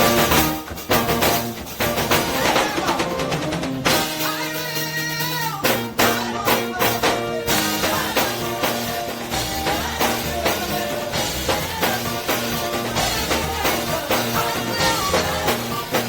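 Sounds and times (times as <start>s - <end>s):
bass line: 0.0s - 16.0s
steady drum beat: 0.0s - 16.0s
upbeat gospel music: 0.0s - 16.0s.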